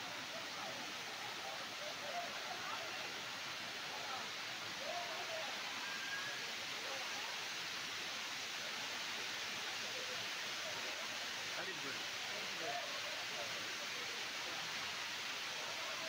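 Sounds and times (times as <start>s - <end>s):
faint crowd voices: 0.0s - 7.7s, 9.7s - 16.0s
waterfall pouring onto rocks: 0.0s - 16.0s.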